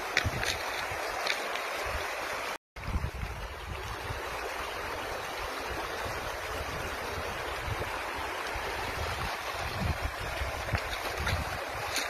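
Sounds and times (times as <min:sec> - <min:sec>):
river water flowing over stones: 0:00.0 - 0:12.0.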